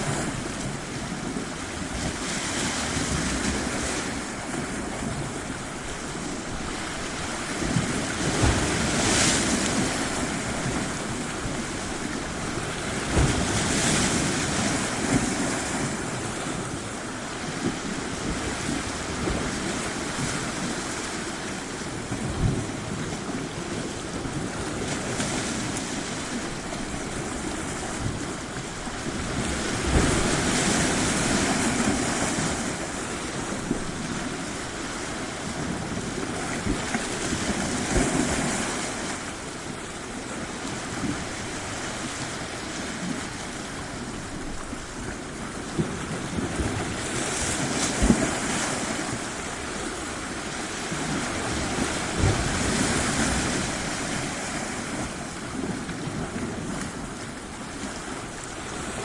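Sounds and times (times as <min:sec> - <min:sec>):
sea surf washing onto shore: 0:00.0 - 0:59.0
wave breaking: 0:00.0 - 0:59.0.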